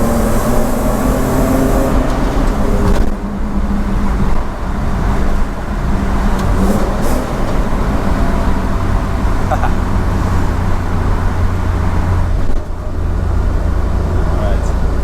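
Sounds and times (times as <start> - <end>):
car engine at full throttle: 0.0 - 15.0
road noise: 0.0 - 15.0.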